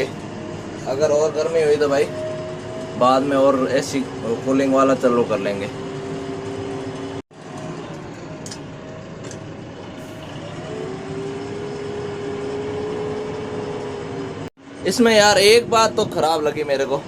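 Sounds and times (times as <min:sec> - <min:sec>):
cab blower fan: 0:00.0 - 0:17.0
diesel engine running: 0:00.0 - 0:17.0.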